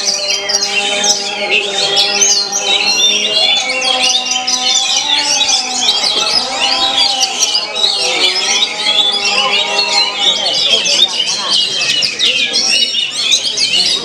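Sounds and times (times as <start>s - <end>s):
birds whistling and chirping: 0.0s - 14.0s.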